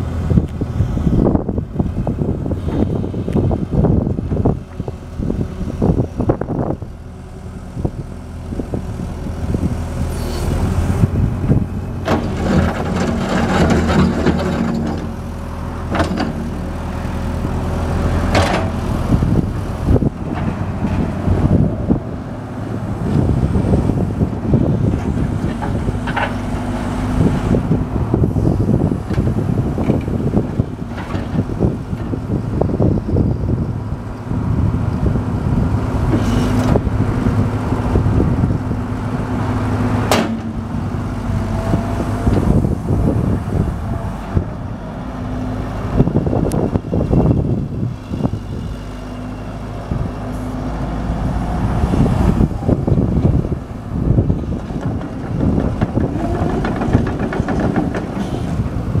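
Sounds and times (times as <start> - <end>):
excavator diesel engine running: 0.0 - 59.0
wind buffeting microphone: 0.0 - 59.0.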